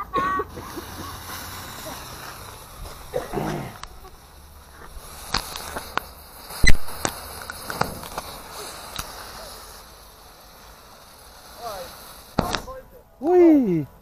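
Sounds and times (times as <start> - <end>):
fireworks hissing sparks: 0.0 - 14.0
firework sharp pops: 0.4 - 13.0.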